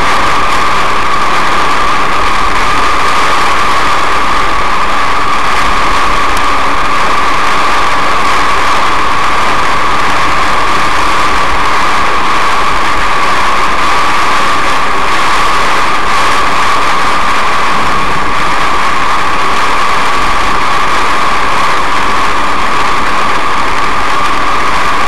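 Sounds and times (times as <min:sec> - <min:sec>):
heavy rain on car roof: 0:00.0 - 0:25.0.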